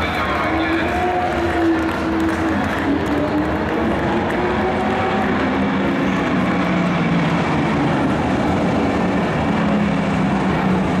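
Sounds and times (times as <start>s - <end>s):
race truck engines revving: 0.0s - 11.0s.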